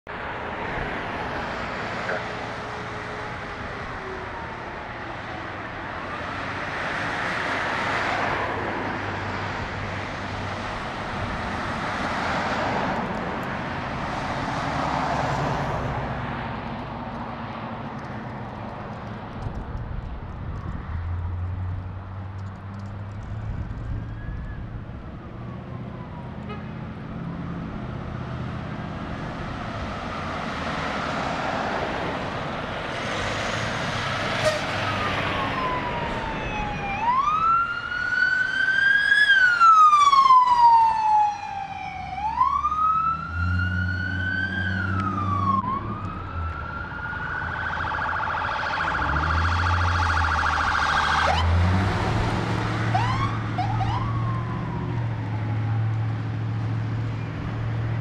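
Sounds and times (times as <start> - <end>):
road traffic passing: 0.1 - 58.0
emergency siren wailing: 0.2 - 16.1, 23.5 - 58.0.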